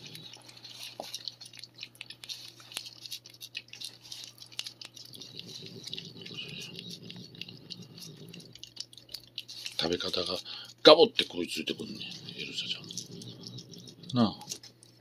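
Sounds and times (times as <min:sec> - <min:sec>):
cat licking and chewing: 0:00.0 - 0:15.0.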